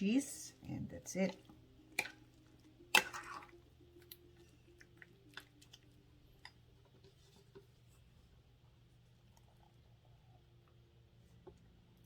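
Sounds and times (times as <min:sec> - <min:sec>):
faint low room hum: 0:00.0 - 0:12.0.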